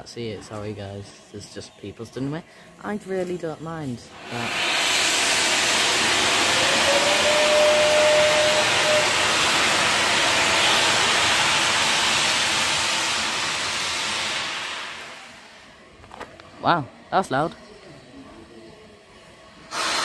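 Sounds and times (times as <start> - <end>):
steam venting hiss: 0.0 - 16.0, 19.1 - 20.0.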